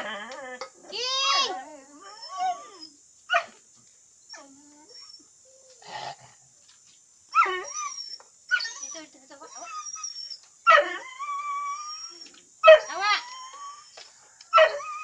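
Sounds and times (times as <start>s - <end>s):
dogs whining and yelping: 0.0s - 3.5s, 4.3s - 5.8s, 7.3s - 15.0s.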